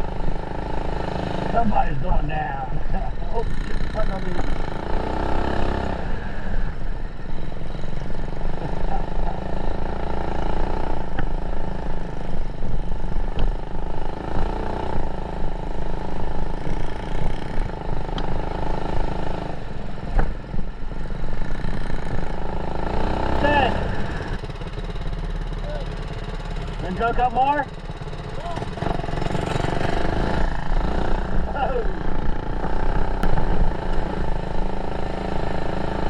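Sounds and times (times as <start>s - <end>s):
small motorbike engine running hard: 0.0s - 36.0s.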